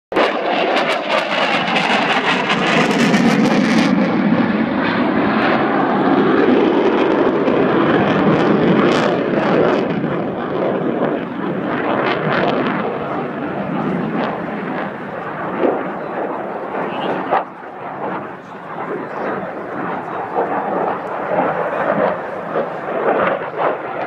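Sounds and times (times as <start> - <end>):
fighter jet flying past: 0.1 - 24.0.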